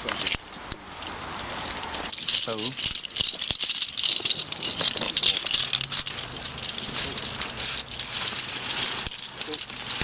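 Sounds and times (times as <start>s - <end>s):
metal hardware rattling and clinking: 0.0s - 10.0s.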